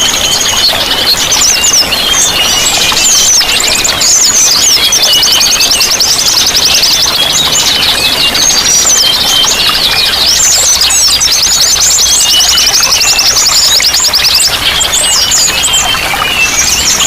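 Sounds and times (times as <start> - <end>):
running water: 0.0 - 17.0
songbirds chirping and trilling: 0.0 - 17.0.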